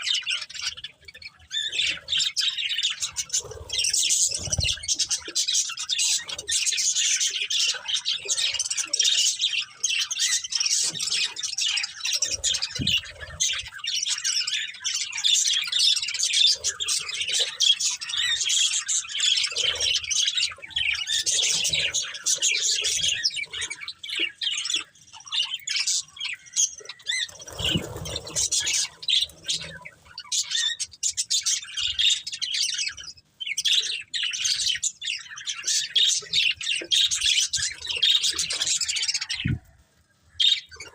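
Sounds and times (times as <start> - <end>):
budgerigars chirping: 0.0 - 39.6, 40.4 - 40.9.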